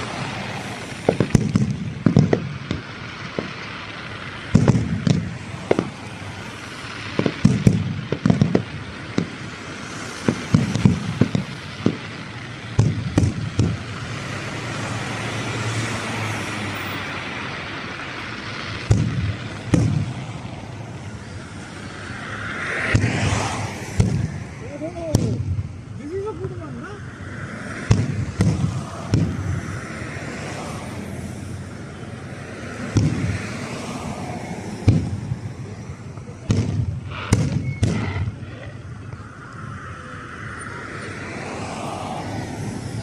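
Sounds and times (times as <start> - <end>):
fireworks bursting: 0.0 - 43.0
steady background noise: 0.0 - 43.0.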